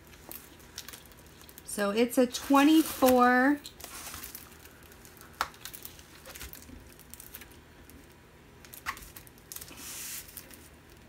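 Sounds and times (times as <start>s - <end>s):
plastic film crinkling: 0.0s - 11.0s
plastic film rustle: 0.0s - 11.0s.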